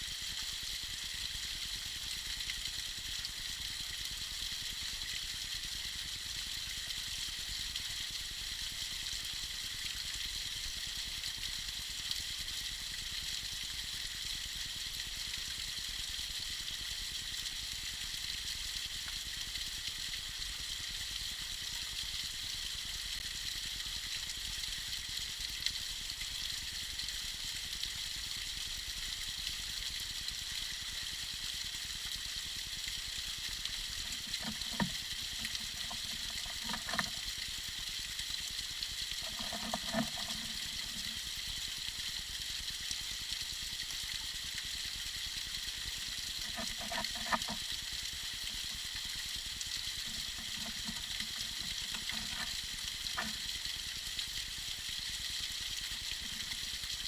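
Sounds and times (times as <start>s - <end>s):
water gurgling: 0.0s - 57.0s
water trickling: 0.0s - 57.0s.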